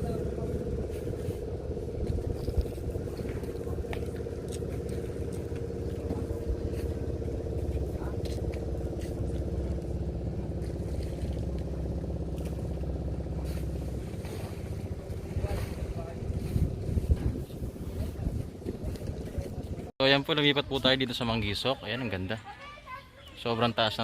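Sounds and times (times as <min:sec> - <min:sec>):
motor engine running: 0:00.0 - 0:19.9.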